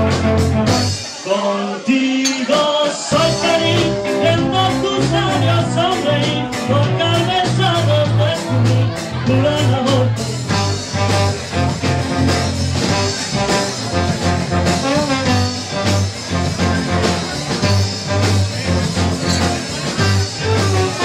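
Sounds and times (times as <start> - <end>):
electric guitar: 0.0 - 1.1, 2.3 - 21.0
trombone: 0.0 - 1.2, 3.1 - 21.0
live band playing instrumental: 0.0 - 21.0.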